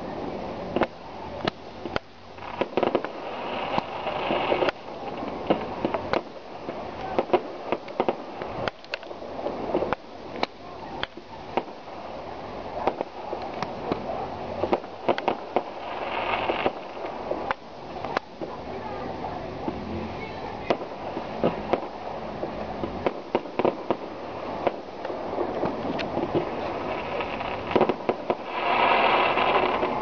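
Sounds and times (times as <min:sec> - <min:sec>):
background rumble and crackle: 0:00.0 - 0:30.0
fireworks bangs and pops: 0:00.0 - 0:30.0.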